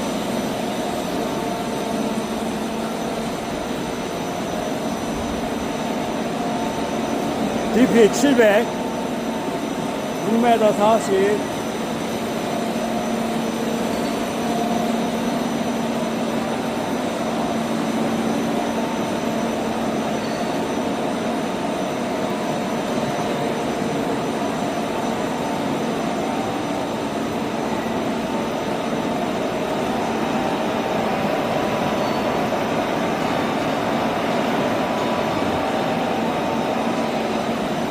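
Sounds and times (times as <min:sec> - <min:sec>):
rock drilling machinery droning: 0:00.0 - 0:37.9.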